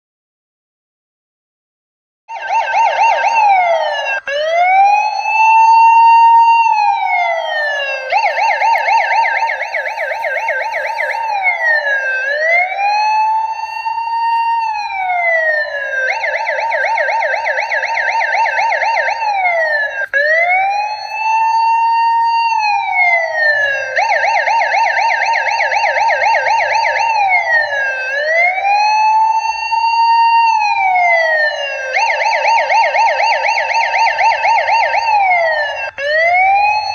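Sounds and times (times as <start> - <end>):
electronic siren wailing and yelping: 2.3 - 36.9.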